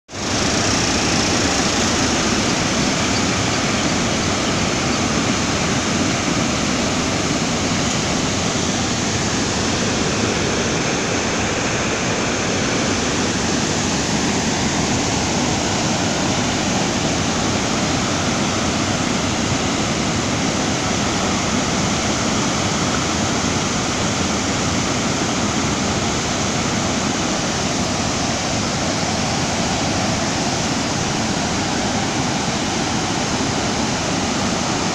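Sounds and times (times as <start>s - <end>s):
floodwater roaring: 0.0s - 34.9s.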